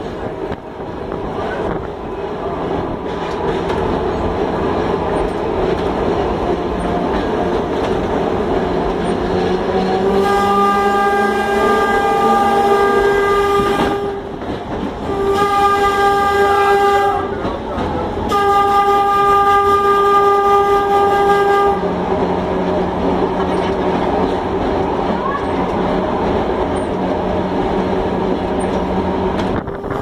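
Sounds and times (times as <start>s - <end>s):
tram rumbling on rails: 0.0s - 30.0s.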